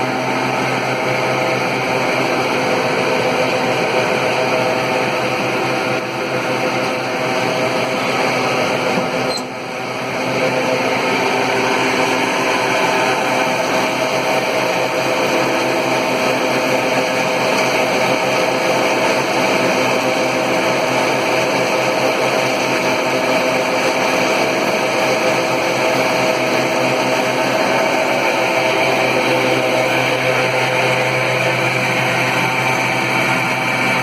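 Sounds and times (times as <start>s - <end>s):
electric fan blower running: 0.0s - 34.0s.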